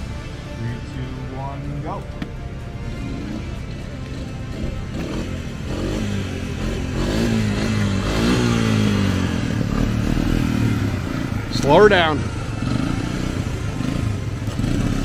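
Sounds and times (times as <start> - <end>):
music: 0.0 - 15.0
small engine revving: 2.8 - 15.0.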